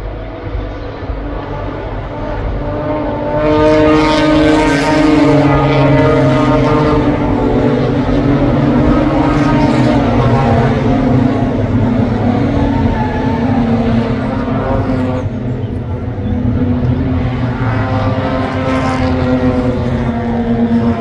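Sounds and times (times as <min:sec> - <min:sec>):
racing cars passing at speed: 0:00.0 - 0:21.0.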